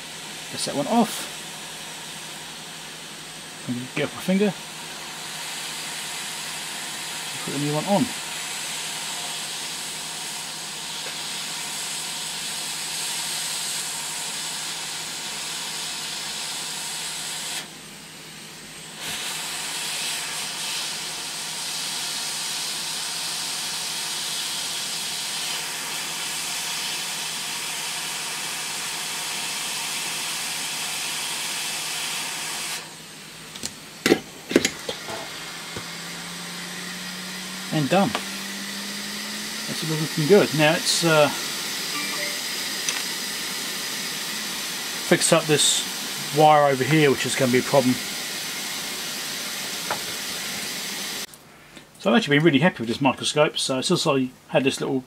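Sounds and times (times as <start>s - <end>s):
hot air station hissing: 0.0s - 51.3s.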